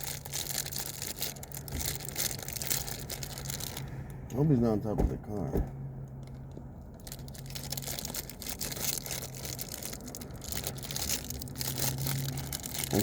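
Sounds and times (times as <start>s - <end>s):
plastic wrapper crinkling: 0.0s - 3.9s, 6.2s - 13.0s.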